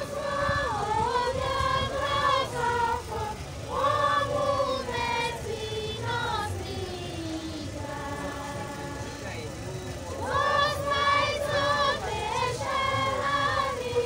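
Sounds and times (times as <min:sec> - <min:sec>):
girls' choir singing a hymn: 0:00.0 - 0:14.0.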